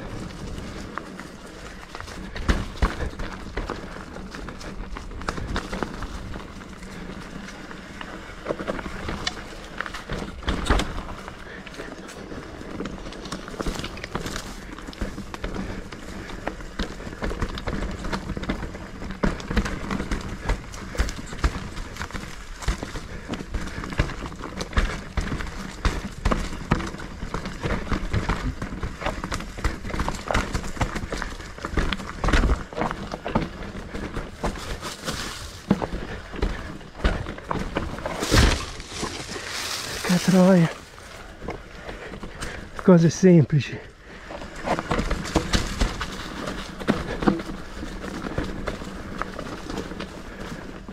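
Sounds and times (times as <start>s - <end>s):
bike knocks and rattles: 0.0s - 42.8s, 44.0s - 50.9s.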